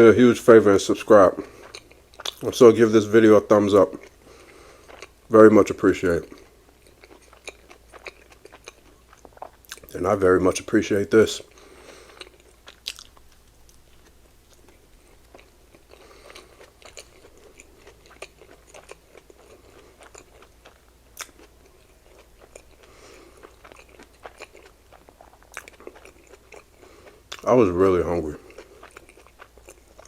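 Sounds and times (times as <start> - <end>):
wet chewing sounds: 0.9 - 2.8, 3.8 - 10.0, 11.4 - 30.0.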